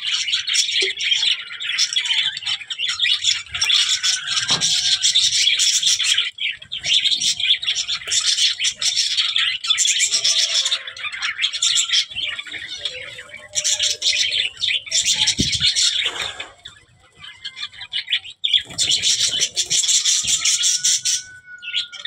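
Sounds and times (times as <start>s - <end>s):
budgerigars chirping: 0.0s - 22.0s.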